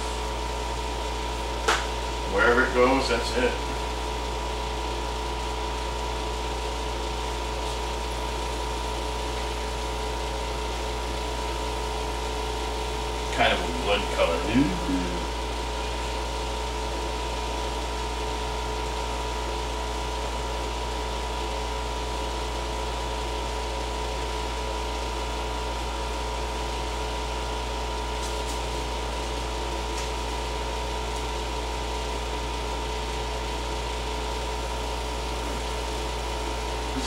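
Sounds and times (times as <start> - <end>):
air conditioner humming: 0.0 - 37.0.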